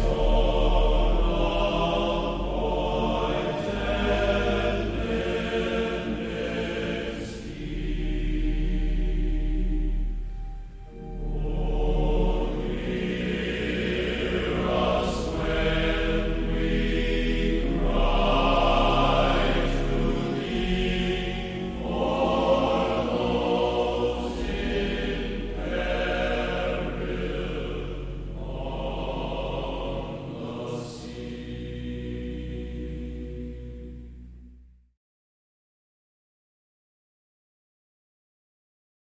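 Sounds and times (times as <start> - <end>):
choir singing sustained notes: 0.0 - 34.8
steady low bass tone: 0.0 - 34.8.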